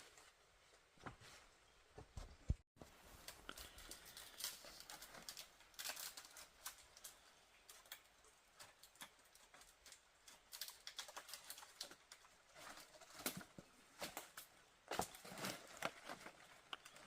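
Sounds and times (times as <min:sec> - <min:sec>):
crinkly rustles: 0:02.2 - 0:17.0.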